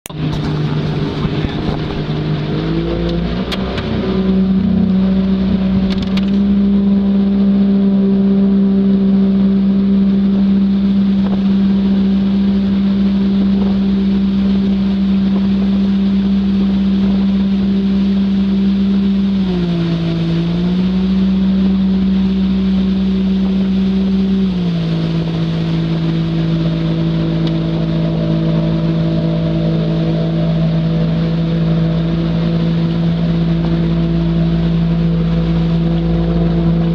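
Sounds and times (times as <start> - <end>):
jet boat engine running: 0.0 - 36.9.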